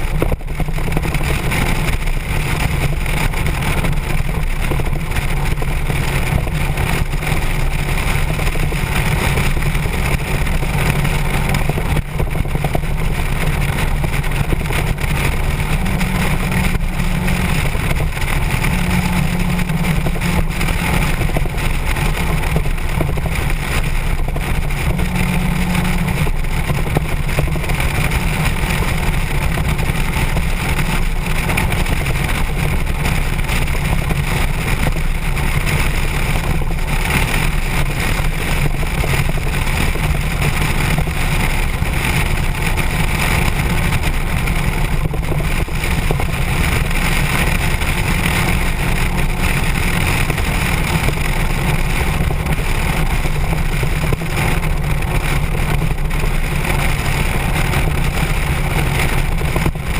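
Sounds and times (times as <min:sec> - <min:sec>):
motorcycle engine rumbling: 0:00.0 - 0:59.9
wind noise on microphone: 0:00.0 - 0:59.9.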